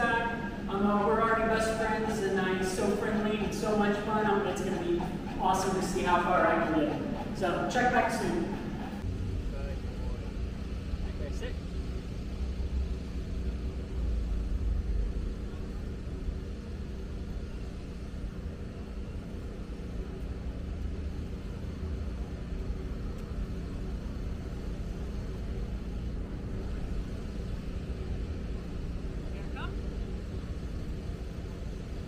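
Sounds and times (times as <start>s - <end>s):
distant city traffic rumble: 0.0s - 32.0s.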